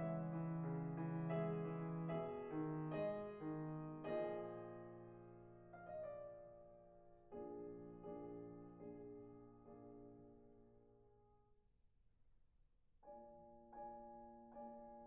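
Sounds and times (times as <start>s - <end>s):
soft solo piano music: 0.0s - 11.3s, 13.0s - 15.0s.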